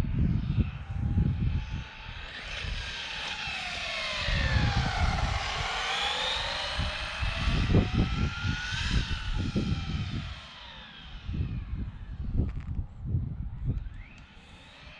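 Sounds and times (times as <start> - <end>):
gusty low rumble: 0.0 - 14.0.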